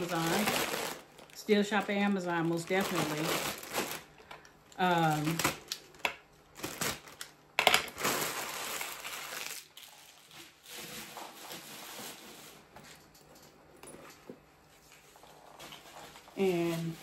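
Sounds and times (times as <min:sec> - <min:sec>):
packaging crinkling and rustling: 0:00.0 - 0:13.1, 0:14.8 - 0:17.0.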